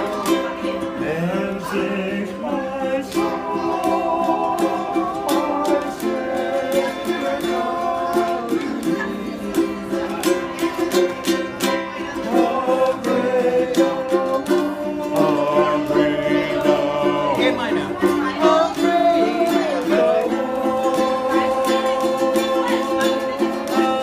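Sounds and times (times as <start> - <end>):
person singing: 0.0 - 24.0
ukulele strumming: 0.0 - 24.0.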